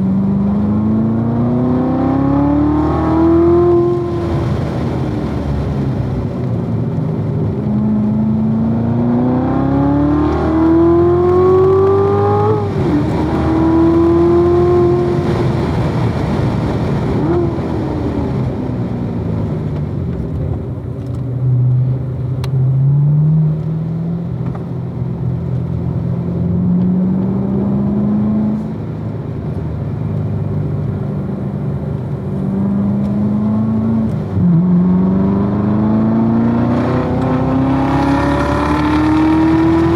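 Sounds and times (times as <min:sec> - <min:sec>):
car engine revving hard: 0:00.0 - 0:06.1, 0:07.6 - 0:18.7, 0:22.6 - 0:29.0, 0:30.3 - 0:39.9.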